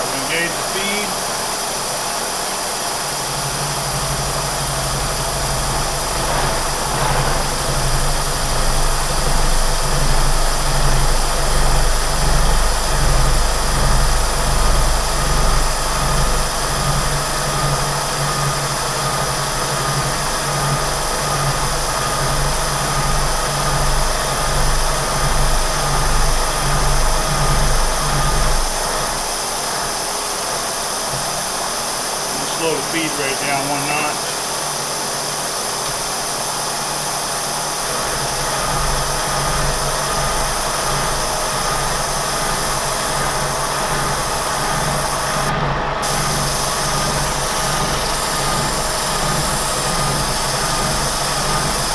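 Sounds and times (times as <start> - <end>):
milling machine running: 0.0 - 51.9
pulsing cutting rumble: 0.0 - 51.9.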